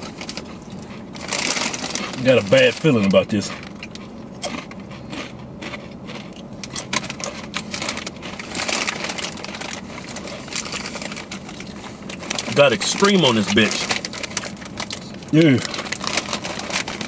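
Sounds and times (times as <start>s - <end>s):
low steady hum: 0.0s - 17.0s
tortilla chips crunching: 0.0s - 17.0s.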